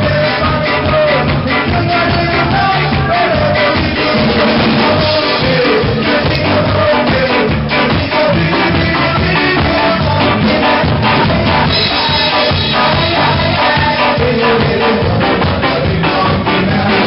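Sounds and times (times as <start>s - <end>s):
drum kit: 0.0s - 17.0s
electric bass guitar: 0.0s - 17.0s
live ska band playing: 0.0s - 17.0s.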